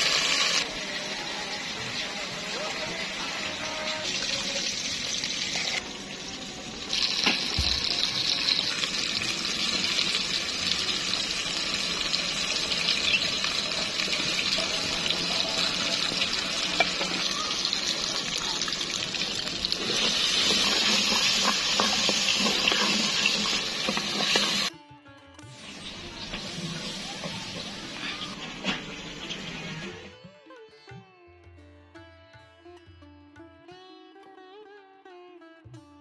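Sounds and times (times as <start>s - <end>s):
masala sizzling and bubbling: 0.0s - 24.7s, 25.6s - 30.1s.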